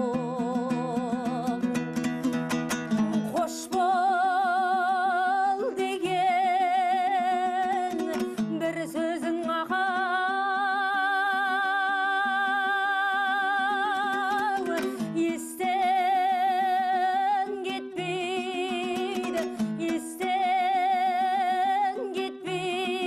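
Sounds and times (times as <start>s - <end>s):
woman singing with vibrato: 0.0s - 2.2s, 3.1s - 23.0s
plucked string instrument: 0.0s - 23.0s.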